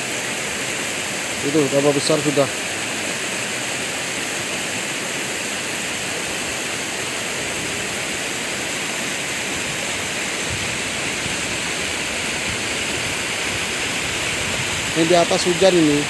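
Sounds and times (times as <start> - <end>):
rushing flood torrent: 0.0 - 16.0.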